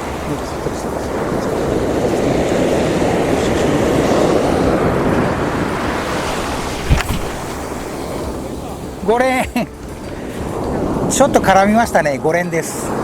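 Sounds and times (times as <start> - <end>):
ocean surf breaking on beach: 0.0 - 11.7.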